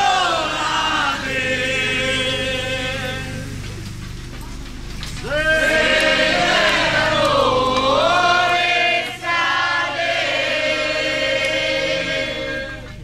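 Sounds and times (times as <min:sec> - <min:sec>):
voices singing a chant: 0:00.0 - 0:03.6, 0:05.2 - 0:13.0.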